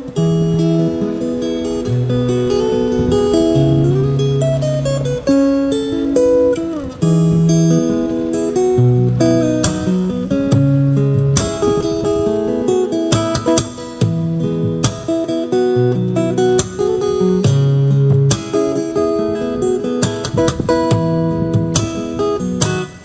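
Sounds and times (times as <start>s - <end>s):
acoustic guitar melody: 0.0s - 23.0s.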